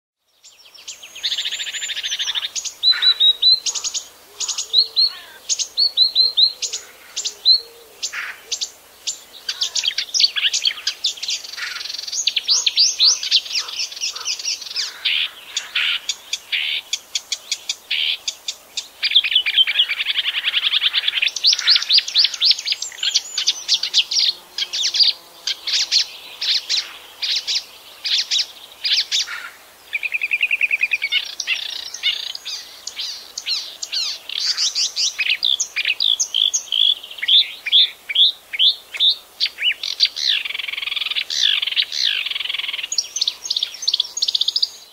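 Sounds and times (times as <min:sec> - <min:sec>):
warbler singing: 0:00.2 - 0:44.9.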